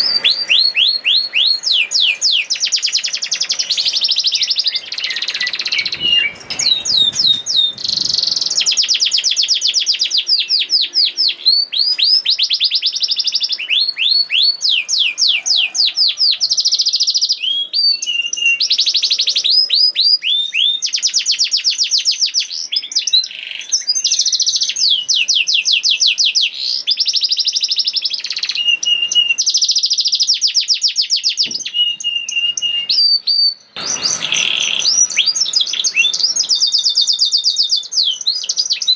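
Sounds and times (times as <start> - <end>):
canary singing rolling trills: 0.0 - 38.9.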